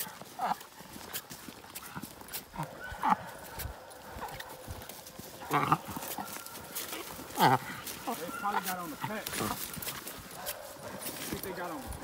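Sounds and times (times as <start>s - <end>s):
footsteps on dirt: 0.0s - 12.0s.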